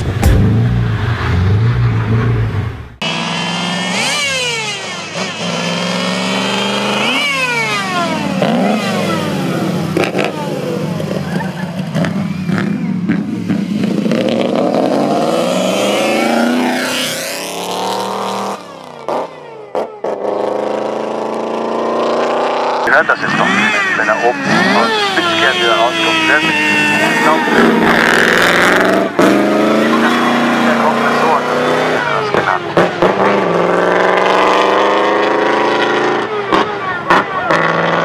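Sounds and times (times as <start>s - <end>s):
racing car engine at full throttle: 0.0s - 38.0s.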